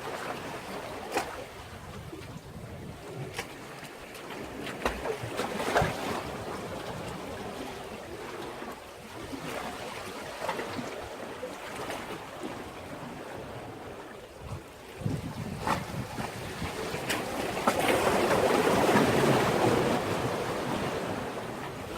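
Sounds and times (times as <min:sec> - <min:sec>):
sea waves washing against breakwater: 0:00.0 - 0:21.9.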